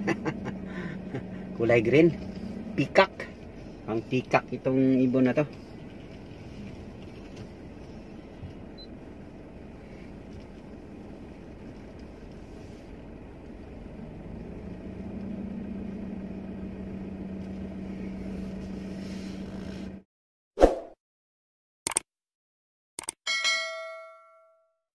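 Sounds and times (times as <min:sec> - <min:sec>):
car engine hum inside cabin: 0:00.0 - 0:20.0.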